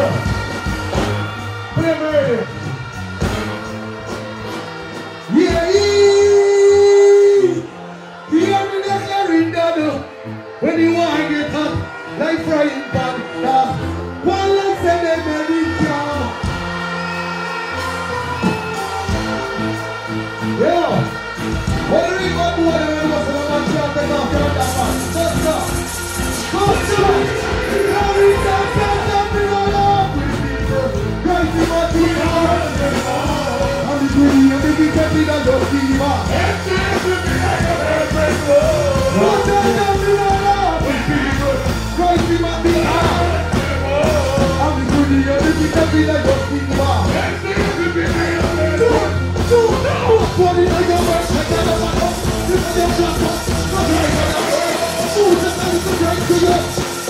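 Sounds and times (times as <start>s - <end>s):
live band music: 0.0s - 57.0s.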